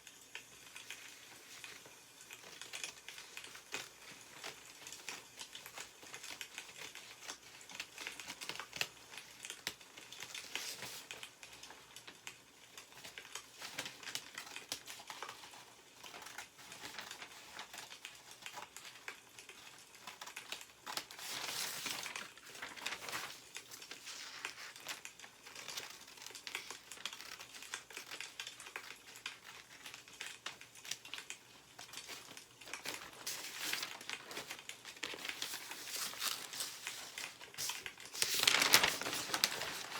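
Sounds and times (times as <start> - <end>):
newspaper pages rustling: 0.4 - 39.9.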